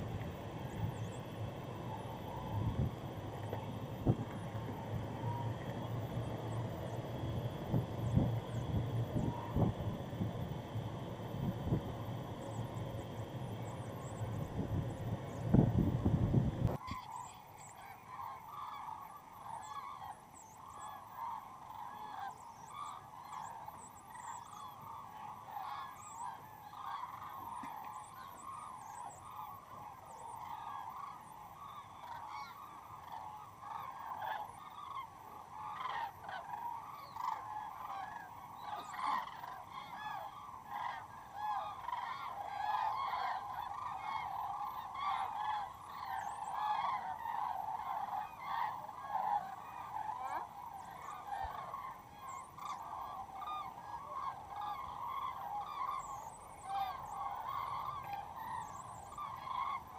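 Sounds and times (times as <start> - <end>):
flock of cranes calling: 0.0 - 59.9.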